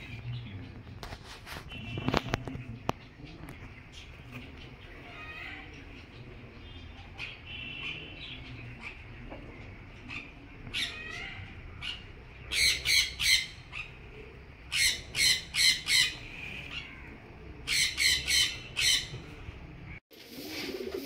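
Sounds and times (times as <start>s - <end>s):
bird squawking: 1.4s - 19.3s.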